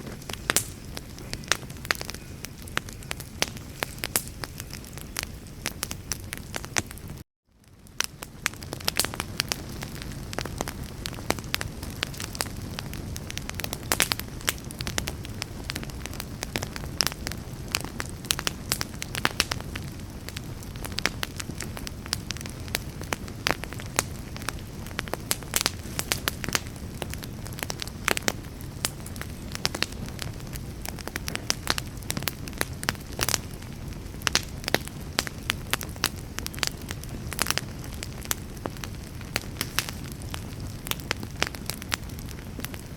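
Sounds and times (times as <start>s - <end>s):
campfire crackling and popping: 0.0s - 42.9s
low rumble of flames: 0.0s - 42.9s.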